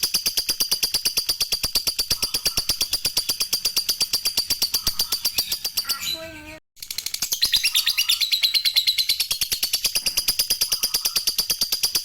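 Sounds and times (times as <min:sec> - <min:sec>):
lovebird chattering: 0:01.2 - 0:12.0.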